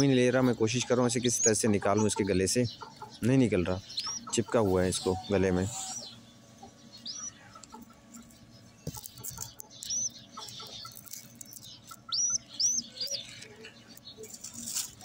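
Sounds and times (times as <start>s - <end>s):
pigeon squab squeaking: 0.0s - 15.0s.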